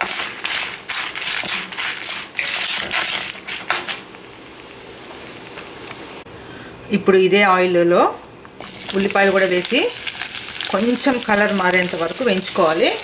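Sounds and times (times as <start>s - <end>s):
oil sizzling: 0.0s - 6.2s, 8.6s - 13.0s.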